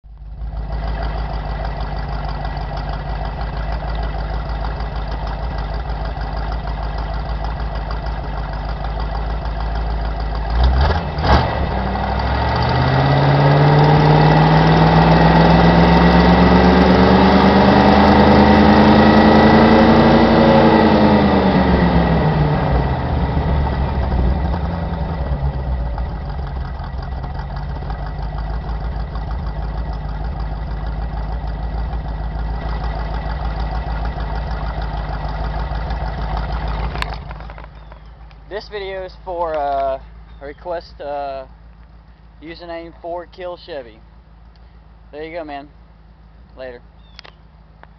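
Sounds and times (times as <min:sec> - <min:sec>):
car engine exhaust revving: 0:00.2 - 0:43.0.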